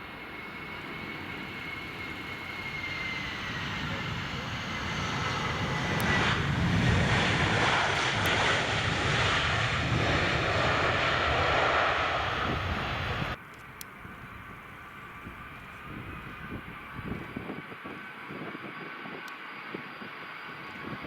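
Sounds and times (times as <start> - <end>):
aircraft engines running: 0.0 - 21.0.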